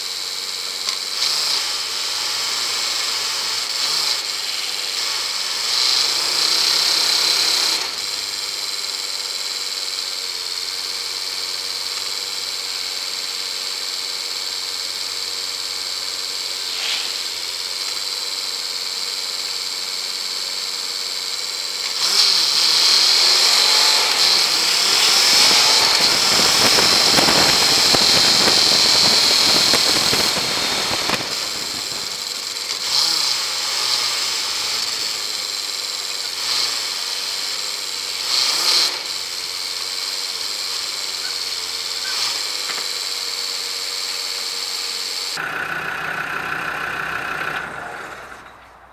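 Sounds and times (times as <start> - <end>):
vehicle engine driving: 0.6 - 48.9.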